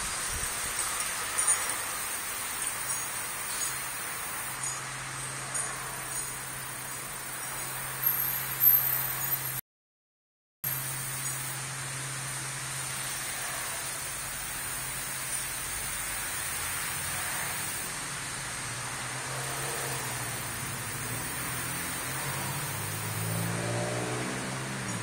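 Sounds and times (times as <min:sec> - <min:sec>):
background hiss: 0:00.0 - 0:09.4, 0:10.7 - 0:25.0.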